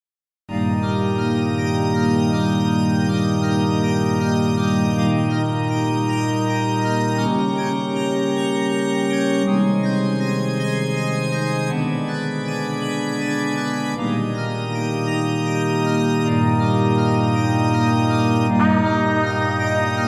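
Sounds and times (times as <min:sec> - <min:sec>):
held organ-like chords: 0:00.5 - 0:20.0.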